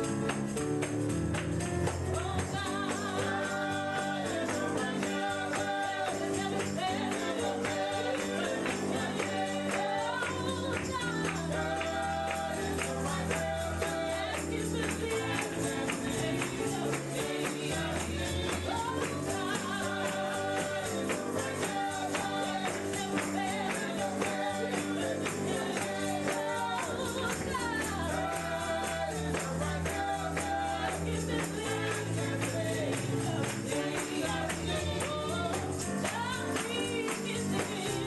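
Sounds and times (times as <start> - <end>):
people singing: 0.0 - 1.1, 1.9 - 38.0
bass and keyboard notes: 0.0 - 38.0
tambourine beat: 0.0 - 38.0.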